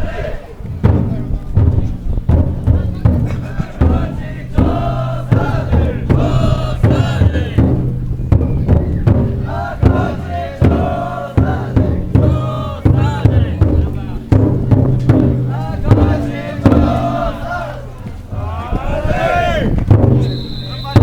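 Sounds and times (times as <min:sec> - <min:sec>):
people chanting together: 0:00.0 - 0:01.0, 0:02.7 - 0:08.0, 0:09.1 - 0:19.9
crowd: 0:00.0 - 0:21.0
large taiko drum strokes: 0:00.6 - 0:21.0.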